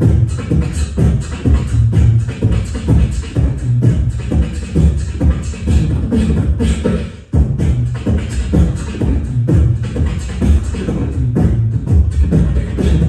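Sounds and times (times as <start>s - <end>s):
amplified beatboxing: 0.0s - 13.0s.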